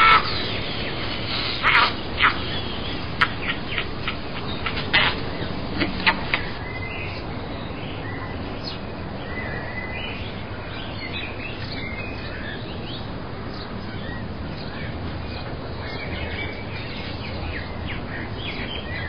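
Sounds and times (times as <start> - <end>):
birds chirping: 0.0 - 19.0
steady background hiss: 0.0 - 19.0.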